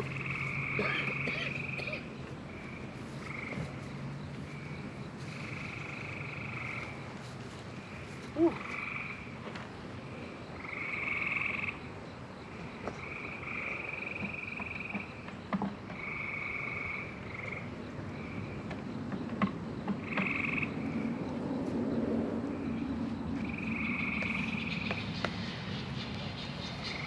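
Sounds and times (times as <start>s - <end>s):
frogs trilling: 0.0s - 27.0s.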